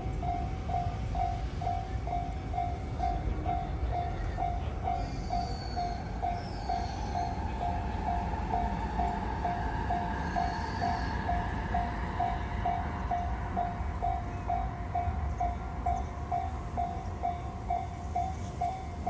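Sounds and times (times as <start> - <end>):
railroad crossing bell ringing: 0.0 - 19.0
train rumbling past: 0.0 - 19.0.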